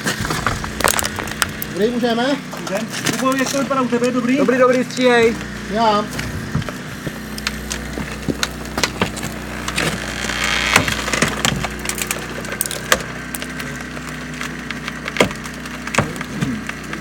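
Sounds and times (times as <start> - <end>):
metal creaking and cracking: 0.0 - 17.0
steady low hum: 0.0 - 17.0.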